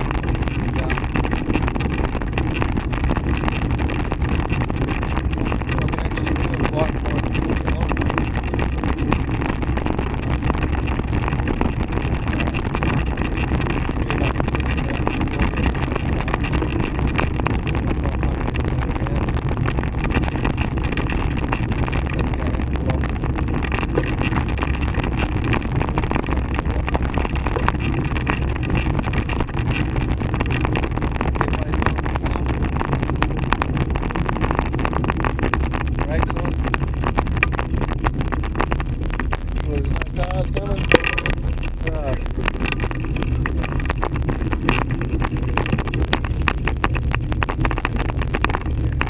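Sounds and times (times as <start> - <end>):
handcycle rolling on asphalt: 0.0 - 49.0
wind buffeting microphone: 0.0 - 49.0.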